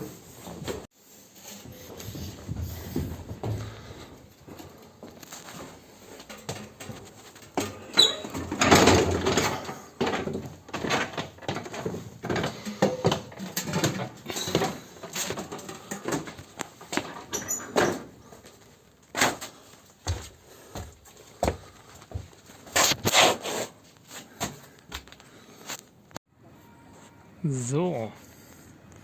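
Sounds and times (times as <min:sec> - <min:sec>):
knocks and scrapes of building work: 0:00.0 - 0:27.2.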